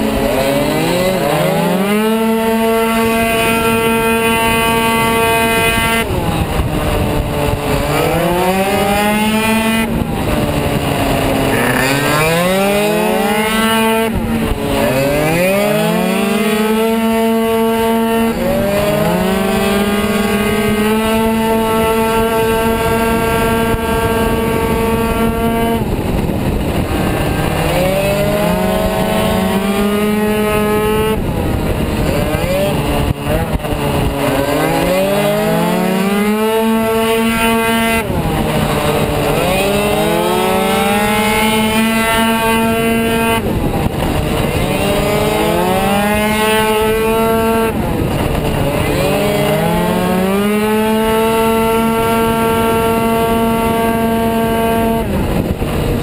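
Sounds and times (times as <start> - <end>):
scooter engine at full throttle: 0.0 - 56.0.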